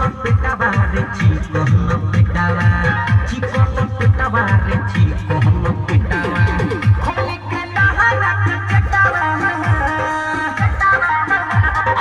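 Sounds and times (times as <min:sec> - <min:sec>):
thumping beat: 0:00.0 - 0:12.0.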